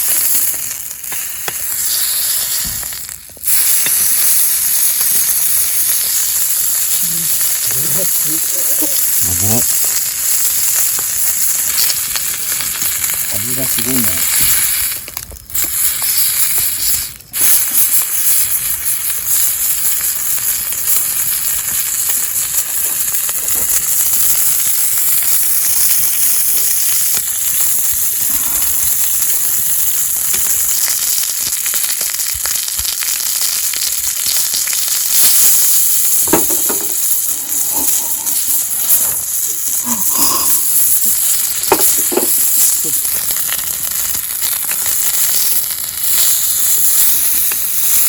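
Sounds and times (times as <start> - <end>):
meat sizzling on griddle: 0.0 - 48.0.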